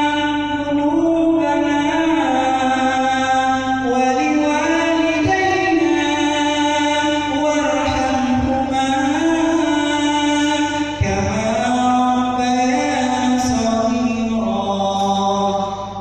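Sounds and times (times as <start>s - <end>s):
man chanting a prayer: 0.0s - 16.0s.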